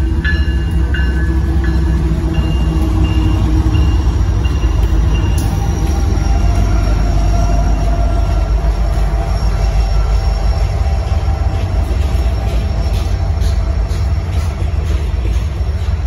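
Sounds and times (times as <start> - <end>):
freight train rumbling past: 0.0 - 16.0
high wheel squeal: 1.8 - 16.0.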